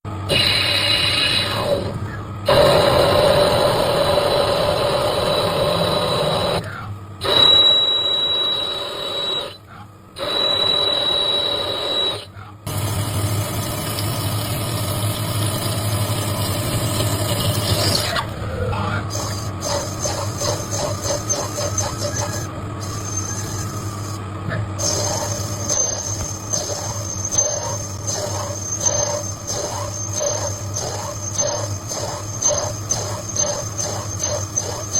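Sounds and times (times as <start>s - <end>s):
cnc machine cutting: 0.1s - 12.3s, 17.7s - 34.9s
high steady whine: 0.1s - 12.4s, 17.8s - 34.9s.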